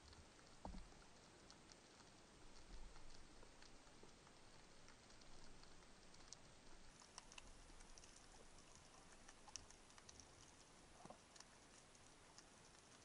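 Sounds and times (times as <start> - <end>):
faint underwater crackle: 0.0 - 13.0
small clicks and ticks: 0.0 - 13.0
soft hiss: 0.0 - 13.0.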